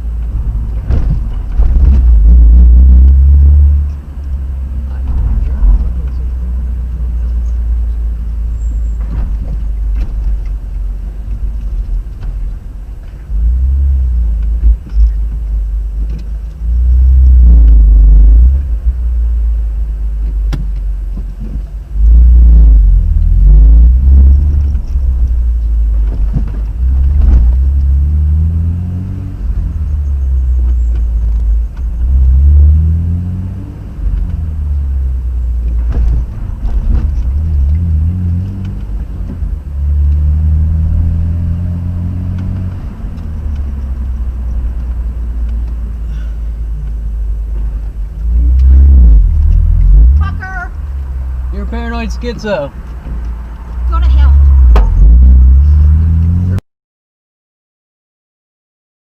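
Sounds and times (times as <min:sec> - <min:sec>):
car engine accelerating: 0:00.0 - 0:56.6
road rumble: 0:00.0 - 0:56.6.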